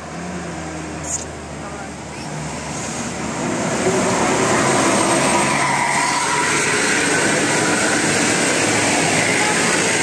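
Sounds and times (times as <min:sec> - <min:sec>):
bus passing: 0:00.0 - 0:10.0.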